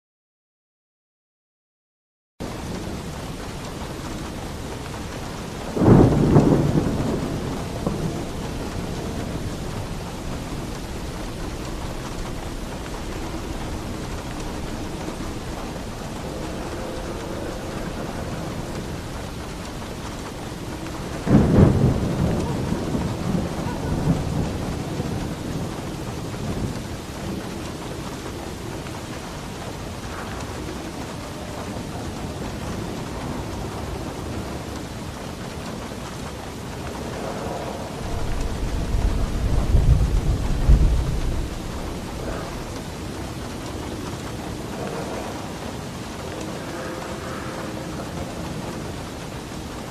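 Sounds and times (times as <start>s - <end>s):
heavy rain on a roof: 2.4s - 49.9s.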